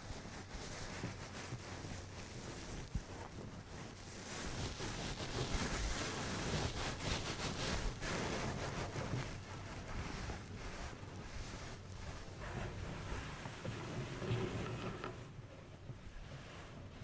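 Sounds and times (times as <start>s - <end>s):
rustling rubbing noise: 0.0s - 17.0s.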